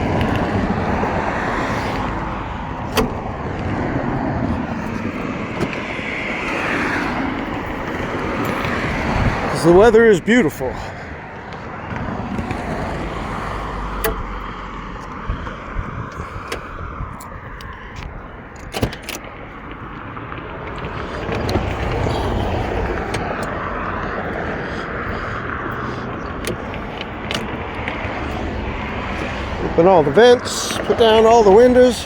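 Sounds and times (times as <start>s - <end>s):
road noise: 0.0s - 32.0s.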